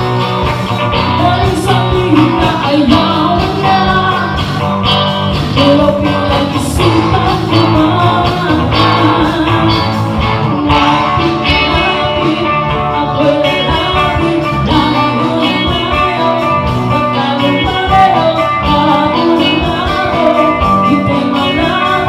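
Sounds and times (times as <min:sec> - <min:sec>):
live band playing: 0:00.0 - 0:22.0.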